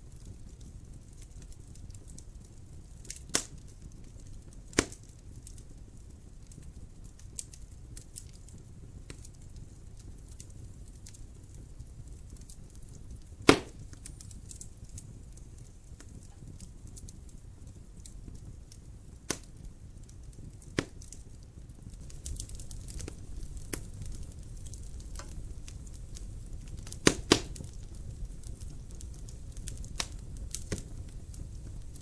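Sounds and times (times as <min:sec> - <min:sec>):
burning wood popping: 0:00.0 - 0:32.0
fire flames rumbling: 0:00.0 - 0:32.0
fire ticking: 0:00.0 - 0:32.0.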